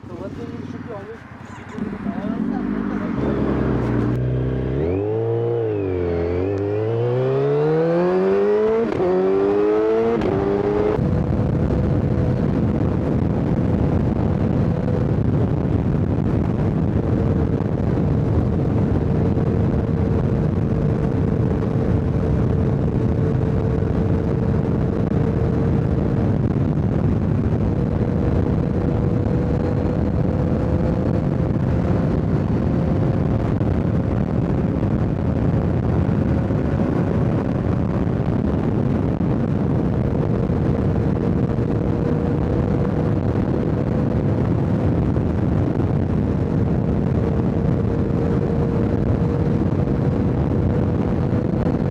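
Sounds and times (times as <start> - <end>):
motorcycle engine cruising: 0.0 - 51.9
wind and road noise: 0.0 - 51.9.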